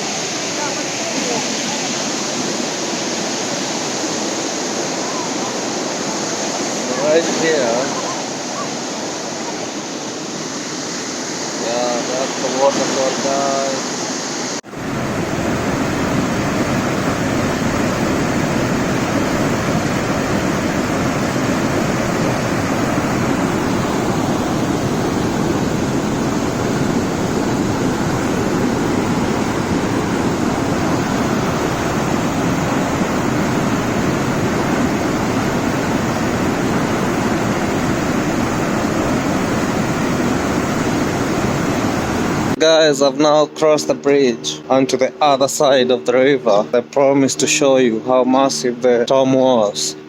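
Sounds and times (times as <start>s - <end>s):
waterfall rushing: 0.0s - 42.8s.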